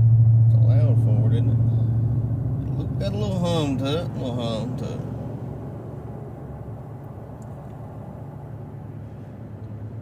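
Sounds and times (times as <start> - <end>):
truck engine and road noise hum: 0.0 - 10.0.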